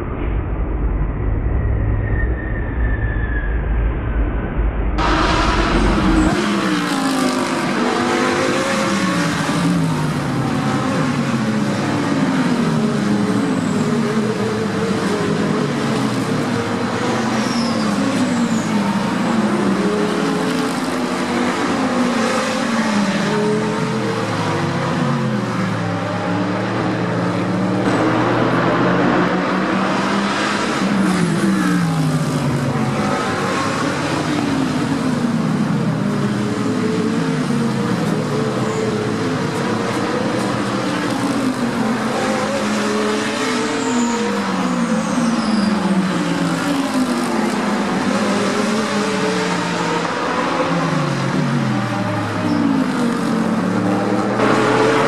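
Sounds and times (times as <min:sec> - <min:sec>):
race car engines passing: 0:05.0 - 0:55.0.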